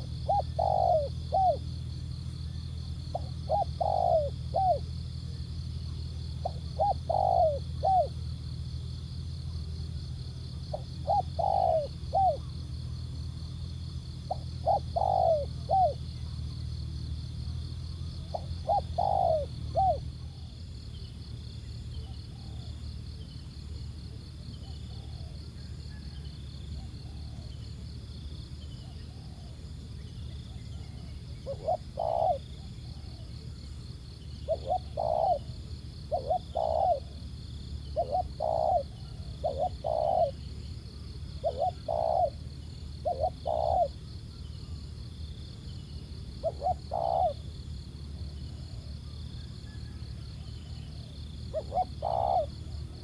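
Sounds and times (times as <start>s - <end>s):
dove cooing: 0.0s - 8.6s, 10.5s - 16.6s, 17.5s - 20.6s, 24.4s - 26.2s, 26.8s - 27.8s, 28.6s - 44.8s, 46.0s - 53.0s.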